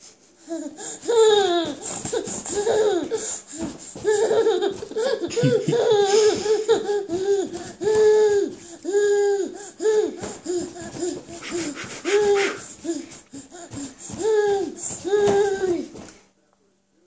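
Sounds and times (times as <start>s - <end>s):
toddler laughing: 0.5s - 16.1s.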